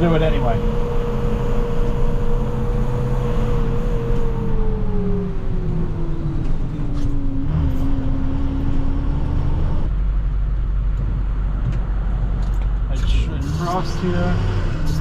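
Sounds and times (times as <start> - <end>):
truck engine low rumble: 0.0 - 15.0
truck engine whine: 0.0 - 15.0.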